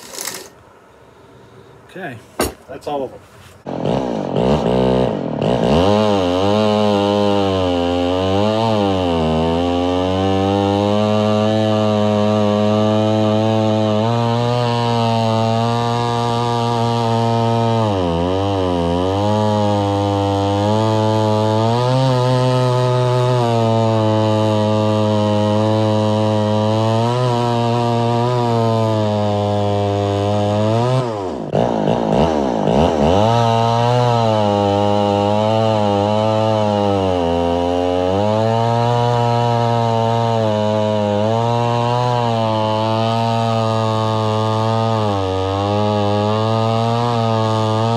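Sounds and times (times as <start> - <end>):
chainsaw cutting wood: 0.0 - 0.7, 3.6 - 47.9.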